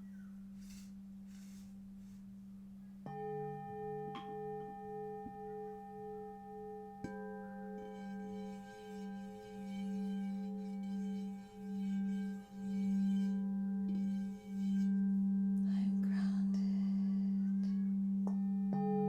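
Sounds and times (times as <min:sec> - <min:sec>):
low singing bowl humming: 0:00.0 - 0:19.0
singing bowl struck and ringing: 0:03.0 - 0:19.0.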